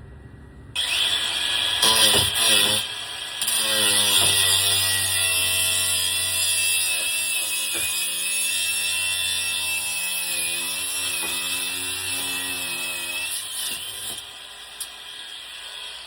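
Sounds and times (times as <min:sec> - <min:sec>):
angle grinder cutting conduit: 0:00.8 - 0:16.0.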